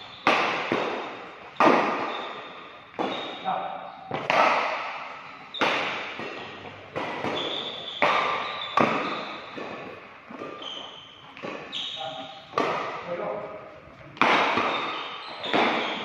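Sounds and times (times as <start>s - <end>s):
rackets smacking shuttlecock: 0.0s - 13.3s, 14.1s - 16.0s.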